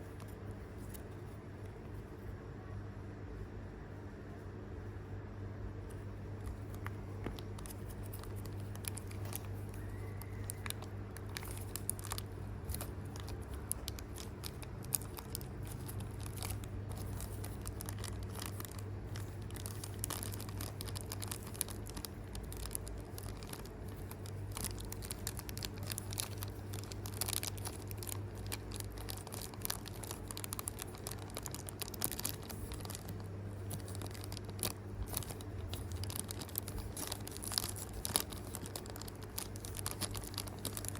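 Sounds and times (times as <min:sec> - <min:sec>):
steady low hum: 0:00.0 - 0:40.9
plastic packaging crinkling and tearing: 0:06.4 - 0:40.9.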